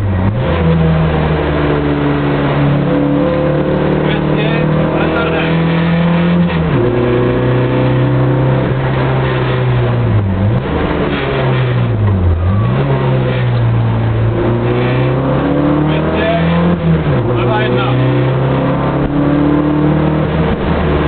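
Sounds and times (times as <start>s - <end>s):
rally car engine at full effort: 0.0s - 21.0s.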